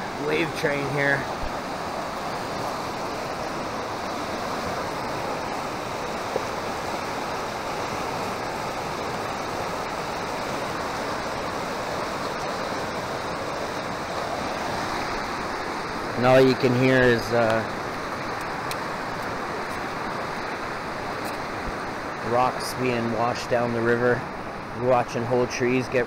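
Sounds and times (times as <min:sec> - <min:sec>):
river rushing: 0:00.0 - 0:26.0
rocks washing along riverbed: 0:00.0 - 0:26.0.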